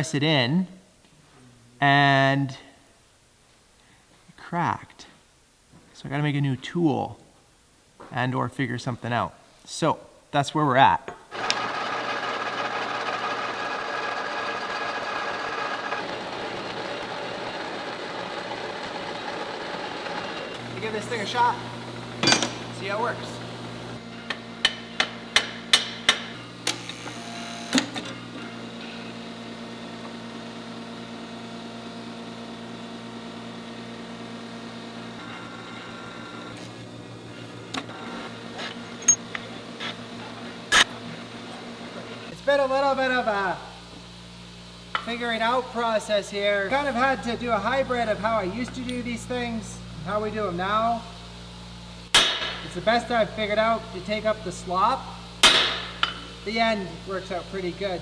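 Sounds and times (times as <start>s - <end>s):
shop machinery running: 11.3s - 58.0s.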